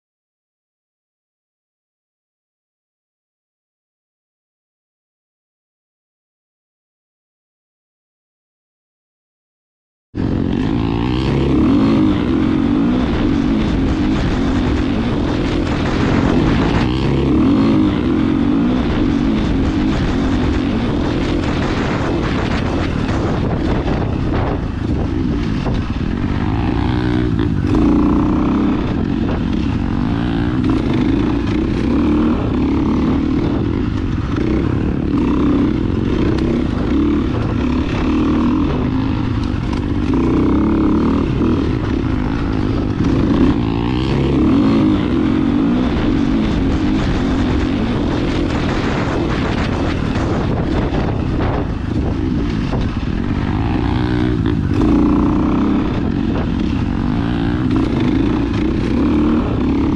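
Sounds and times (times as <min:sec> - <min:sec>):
dirt bike engines running: 0:10.2 - 0:59.9.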